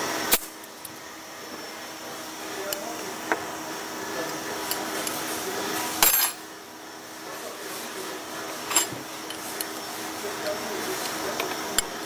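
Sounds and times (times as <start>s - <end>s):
gas hissing: 0.0s - 12.0s.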